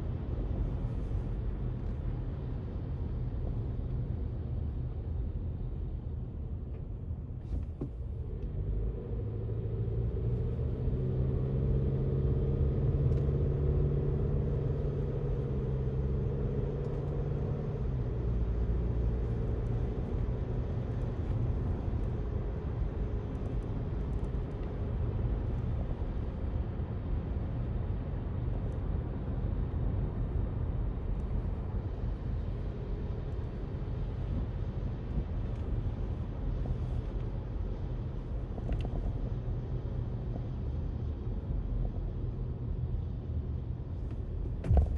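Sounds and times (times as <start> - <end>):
engine hum: 6.5 - 44.9.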